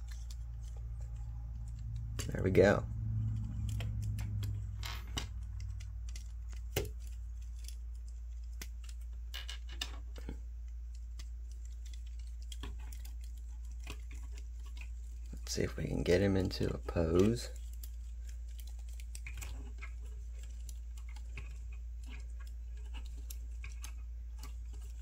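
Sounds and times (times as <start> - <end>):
steady low hum: 0.0 - 25.0
plastic model parts clicking: 3.2 - 25.0.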